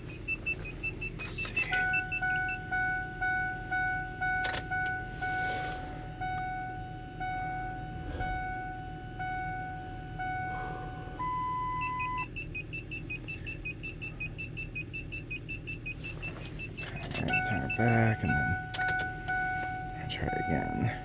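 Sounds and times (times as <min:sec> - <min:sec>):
dashboard warning chime: 0:00.0 - 0:21.0
low steady hum: 0:00.0 - 0:21.0
rapid beeping: 0:00.0 - 0:21.0
steady beep: 0:00.0 - 0:21.0.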